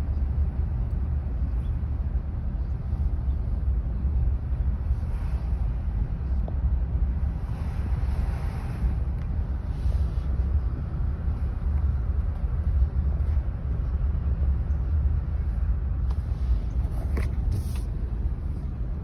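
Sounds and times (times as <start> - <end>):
car rumble from inside cabin: 0.0 - 19.0.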